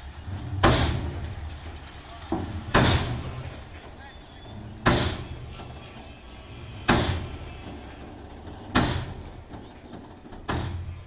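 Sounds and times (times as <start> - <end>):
diesel engine idling: 0.0 - 11.0
heavy metal bangs: 0.1 - 11.0.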